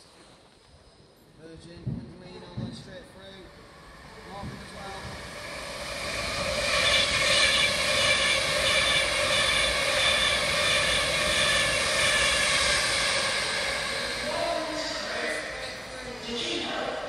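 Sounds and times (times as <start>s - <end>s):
electric train passing at speed: 1.8s - 17.0s.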